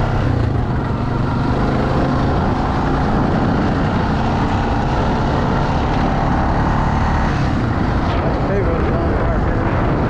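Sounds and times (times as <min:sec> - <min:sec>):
off-road bike engine running: 0:00.0 - 0:10.0.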